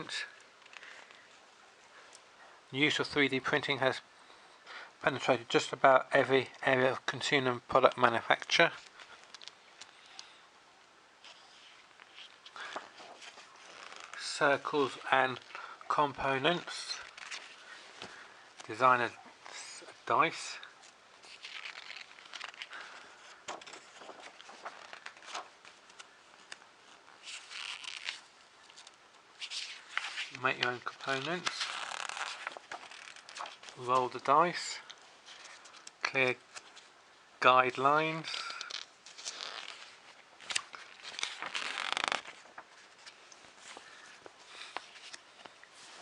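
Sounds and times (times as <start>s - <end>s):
magazine pages rustling: 0.2s - 2.1s, 7.6s - 10.4s, 11.2s - 37.0s, 37.6s - 46.0s.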